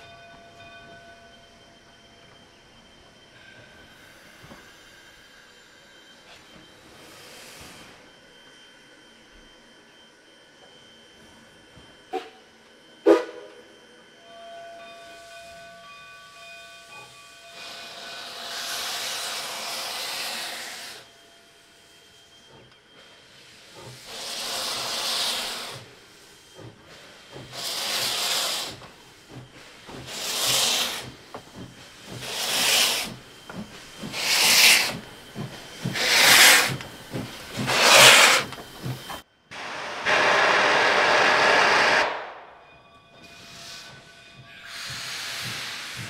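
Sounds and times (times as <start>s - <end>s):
steam locomotive chuffs: 0.0s - 46.0s
steady hiss of steam: 1.4s - 14.3s, 14.9s - 42.5s, 43.1s - 46.0s.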